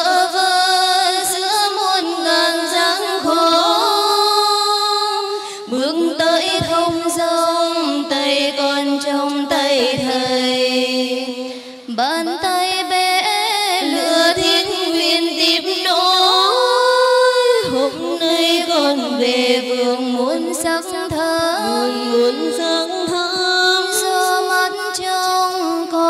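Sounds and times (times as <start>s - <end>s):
women singing meditation song: 0.0s - 26.0s.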